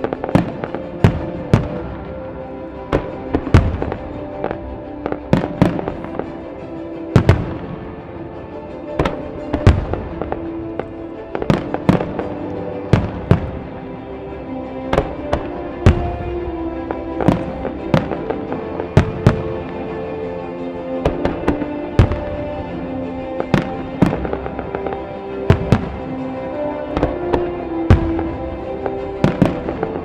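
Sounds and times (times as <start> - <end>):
music playing: 0.0 - 30.0.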